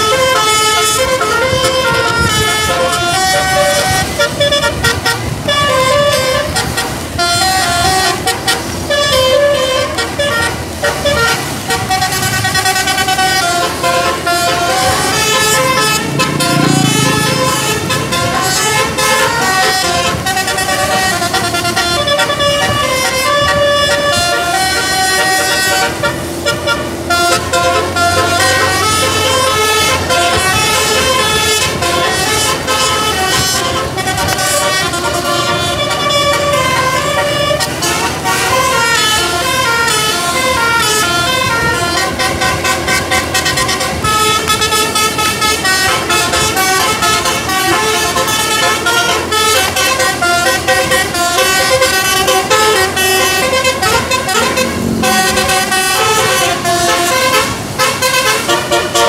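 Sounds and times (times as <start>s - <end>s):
musical bus air horn tune: 0.0s - 59.0s.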